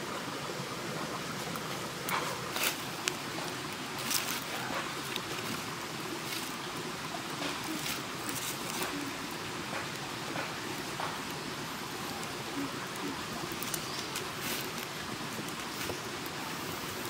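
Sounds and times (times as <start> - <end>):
wood fire hissing: 0.0 - 17.0
crackles and pops of burning sticks: 1.2 - 17.0.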